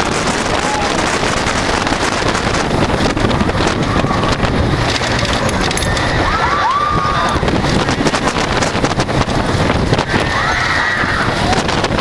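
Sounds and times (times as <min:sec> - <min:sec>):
roller coaster rattling on track: 0:00.0 - 0:12.0
wind on microphone: 0:00.0 - 0:12.0.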